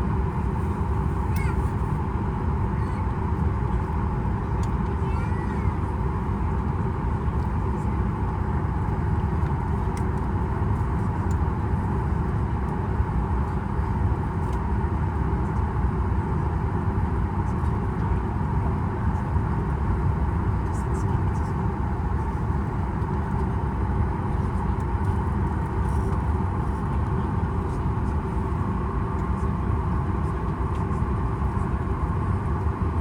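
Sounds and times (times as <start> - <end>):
aircraft cabin air-conditioning hum: 0.0 - 33.0.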